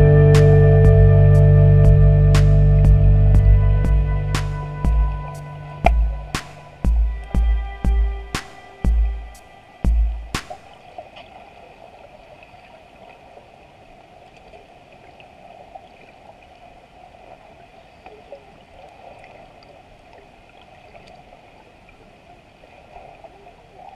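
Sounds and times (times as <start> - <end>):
underwater water noise: 0.0 - 23.9.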